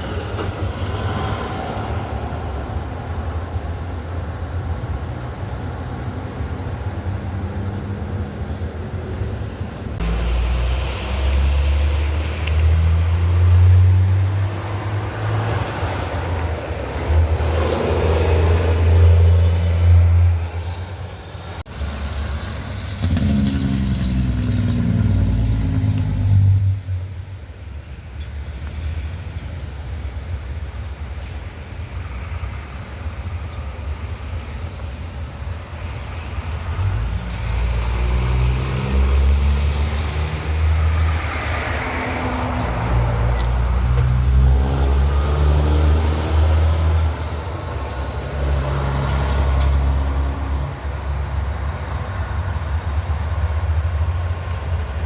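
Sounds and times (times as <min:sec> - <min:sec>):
heavy trucks passing: 0:00.0 - 0:55.0.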